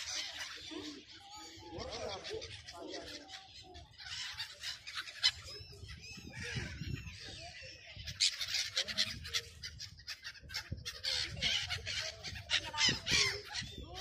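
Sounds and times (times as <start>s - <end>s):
sea birds calling: 0.0s - 14.0s.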